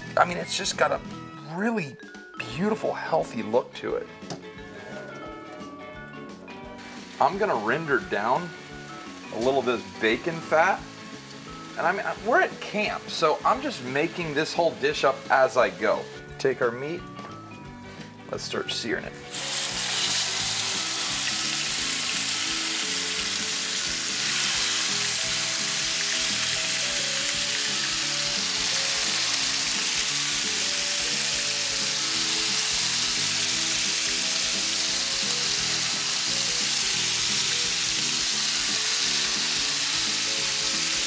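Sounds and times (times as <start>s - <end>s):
meat sizzling in fat: 4.6s - 16.3s, 19.1s - 41.0s.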